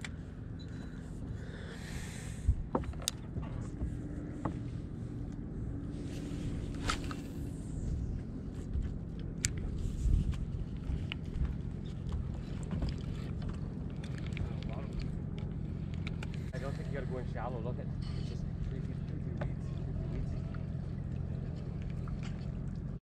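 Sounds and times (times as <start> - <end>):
faint steady hum: 0.0 - 23.0
wind and water rumble: 0.0 - 23.0.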